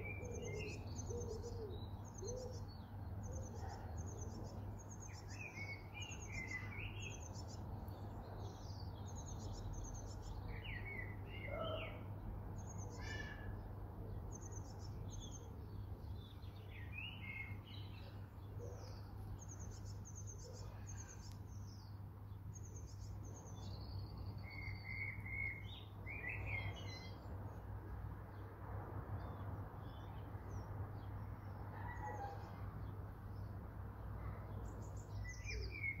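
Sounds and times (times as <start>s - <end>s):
small birds chirping and trilling: 0.0s - 36.0s.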